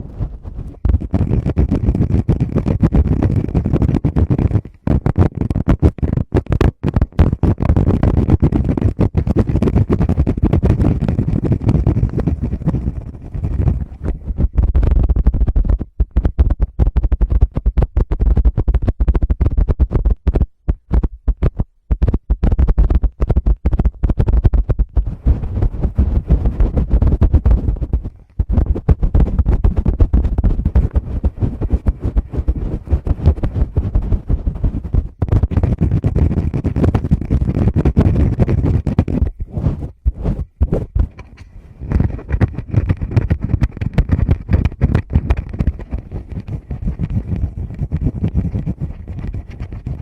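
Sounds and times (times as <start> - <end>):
fingers tapping on microphone: 0.0 - 50.0.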